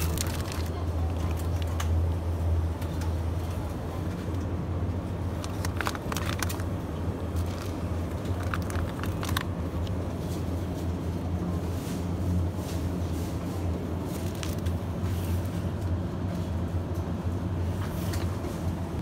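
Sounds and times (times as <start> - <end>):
refrigerated display cases humming: 0.0 - 19.0.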